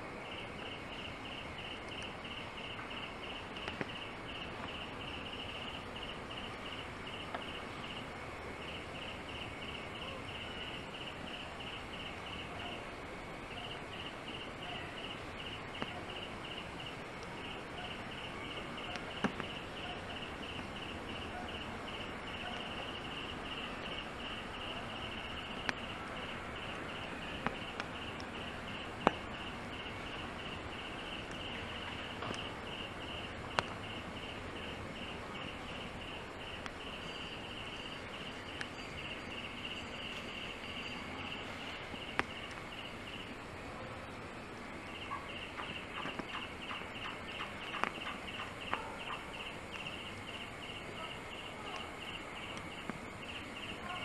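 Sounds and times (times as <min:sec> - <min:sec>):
background hiss: 0:00.0 - 0:54.0
insects chirping: 0:00.0 - 0:54.0.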